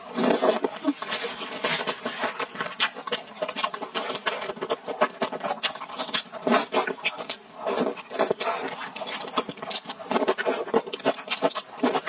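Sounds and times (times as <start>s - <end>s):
wet chewing mouth clicks: 0.2s - 12.0s.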